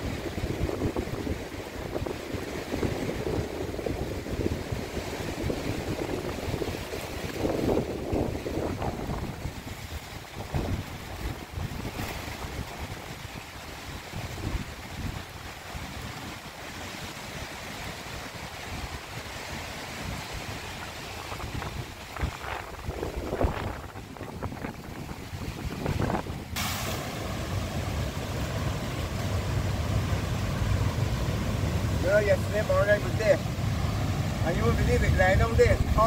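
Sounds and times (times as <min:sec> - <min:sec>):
surf breaking against rocks: 0:00.0 - 0:36.0
wind on microphone: 0:00.0 - 0:36.0.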